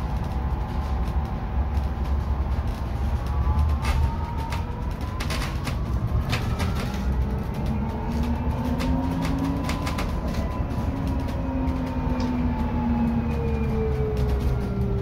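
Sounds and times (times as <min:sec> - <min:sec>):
electric bus motor whining: 0:00.0 - 0:15.0
interior clicks and rattles: 0:00.0 - 0:15.0
low road rumble: 0:00.0 - 0:15.0.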